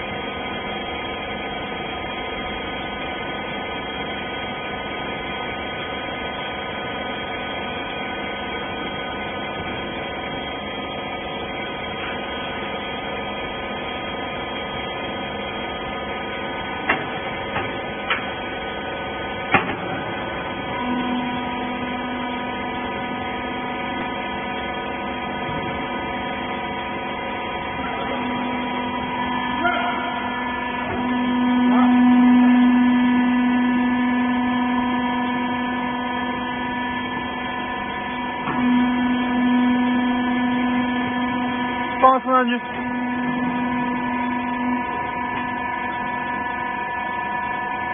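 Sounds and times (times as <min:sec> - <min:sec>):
hydraulic unit hum and whine: 0:00.0 - 0:47.9.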